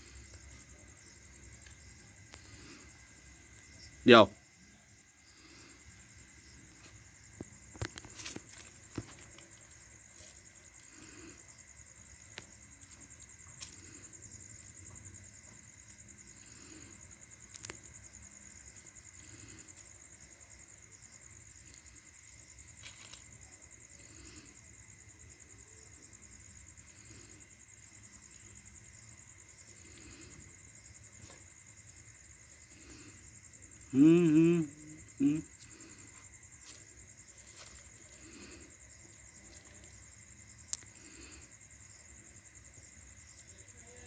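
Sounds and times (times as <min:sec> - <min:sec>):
crickets chirring: 0:00.0 - 0:44.0.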